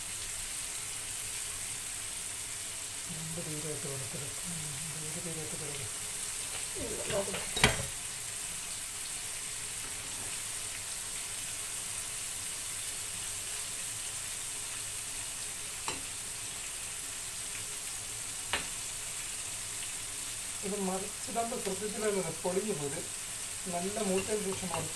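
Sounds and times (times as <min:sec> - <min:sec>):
fish sizzling in hot oil: 0:00.0 - 0:24.9.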